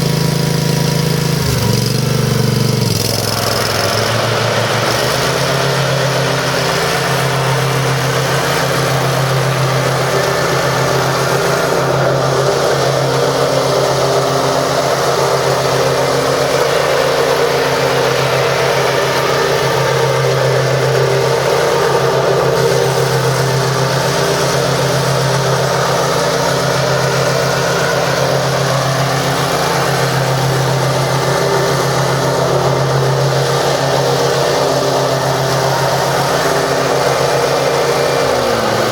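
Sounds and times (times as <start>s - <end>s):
mower engine running steadily: 0.0s - 38.9s.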